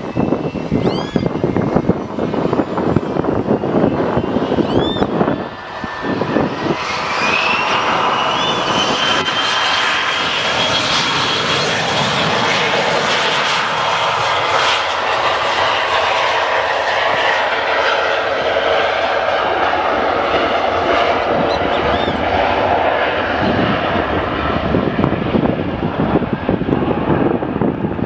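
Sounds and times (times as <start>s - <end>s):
high engine whine: 0.0s - 28.0s
jet engines roaring: 0.0s - 28.0s.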